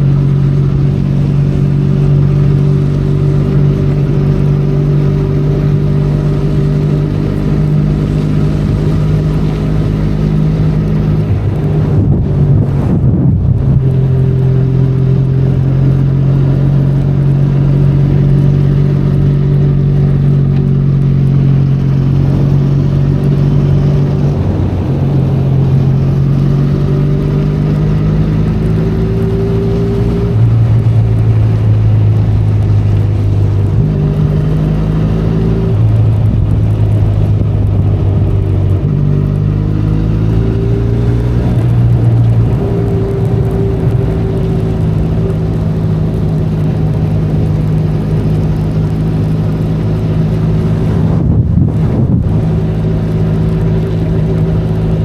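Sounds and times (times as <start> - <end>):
motorcycle engine running: 0.0 - 55.0
wind and rain hiss: 0.2 - 19.1, 19.7 - 55.0.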